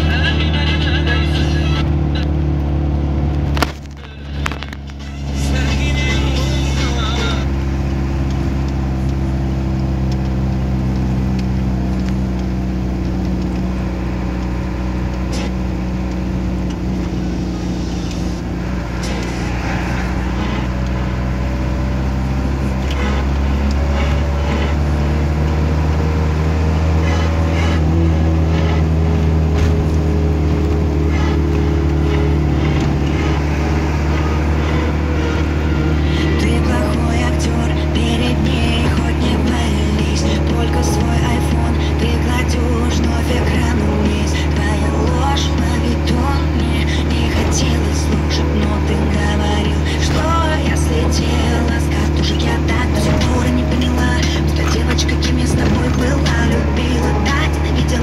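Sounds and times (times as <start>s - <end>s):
van engine and tyres humming: 0.0s - 58.0s.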